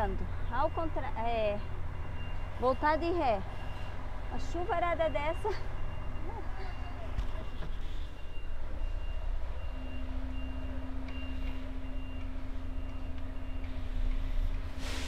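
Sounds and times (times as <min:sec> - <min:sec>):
reversing alarm beeping: 0:00.0 - 0:14.5.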